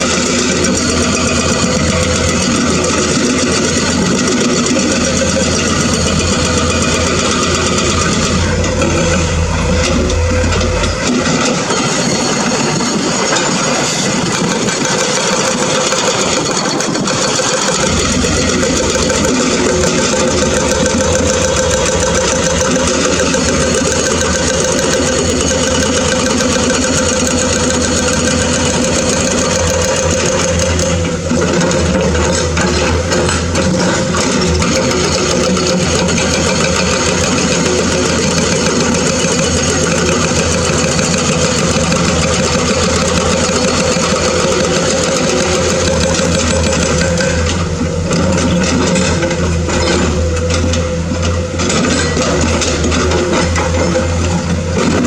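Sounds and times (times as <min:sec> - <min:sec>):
diesel truck engines droning: 0:00.0 - 0:55.0.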